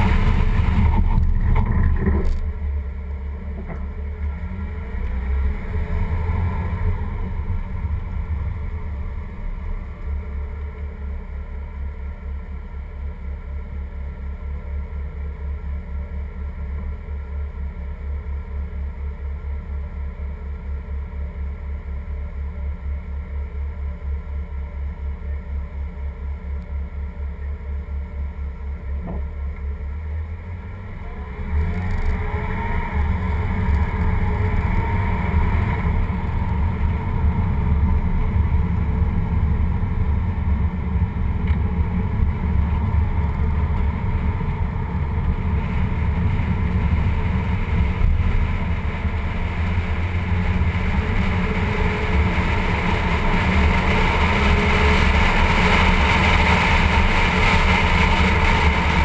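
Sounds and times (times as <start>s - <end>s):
tyre and road noise: 0.0s - 59.0s.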